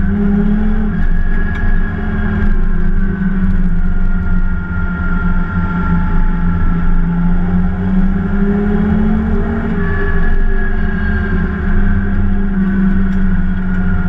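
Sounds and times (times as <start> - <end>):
race car engine running hard: 0.0 - 14.0.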